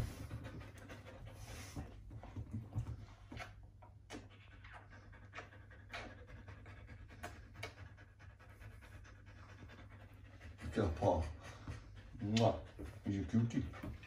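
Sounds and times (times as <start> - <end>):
dog panting softly: 0.0 - 14.0.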